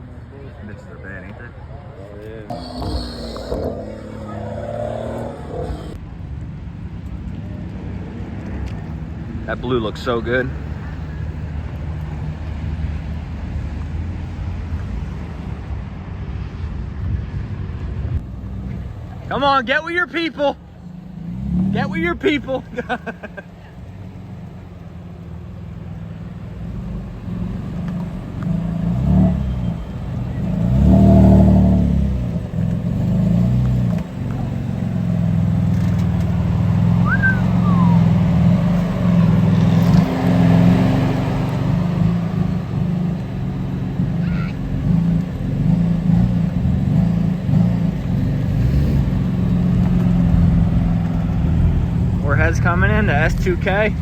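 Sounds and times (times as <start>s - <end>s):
car engines exhaust rumble: 0.0s - 54.0s.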